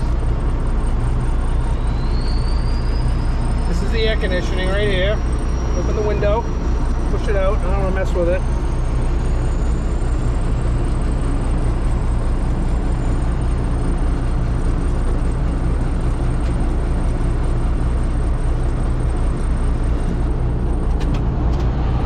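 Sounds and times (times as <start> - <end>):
truck engine idling: 0.0 - 21.6.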